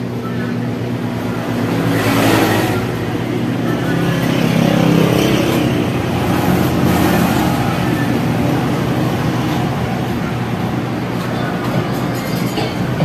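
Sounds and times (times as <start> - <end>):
highway traffic passing: 0.0 - 13.0.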